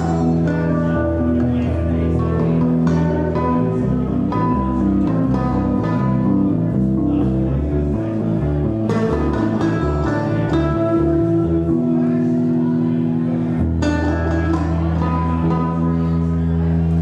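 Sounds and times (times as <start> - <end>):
bass line: 0.0 - 17.0
rock band playing live: 0.0 - 17.0.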